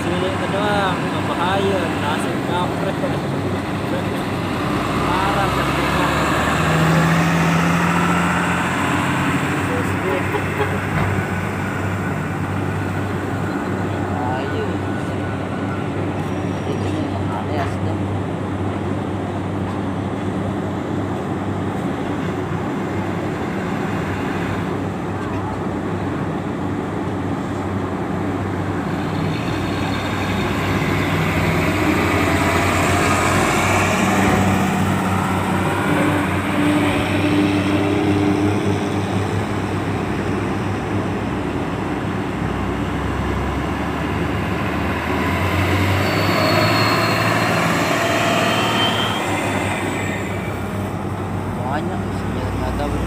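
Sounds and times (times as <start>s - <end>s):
truck engines revving: 0.0s - 53.0s.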